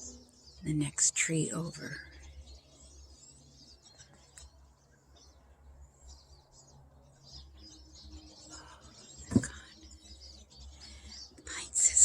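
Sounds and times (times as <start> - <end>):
flock of birds twittering: 0.0 - 12.0.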